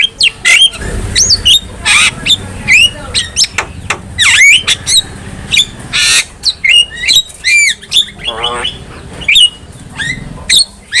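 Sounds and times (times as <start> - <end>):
bird squawk: 0.0 - 3.6, 4.2 - 11.0.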